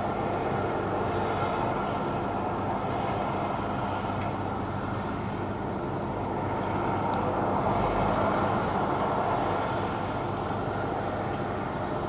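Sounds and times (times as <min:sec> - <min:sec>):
combine harvester drone: 0:00.0 - 0:12.0
low engine hum: 0:00.0 - 0:12.0.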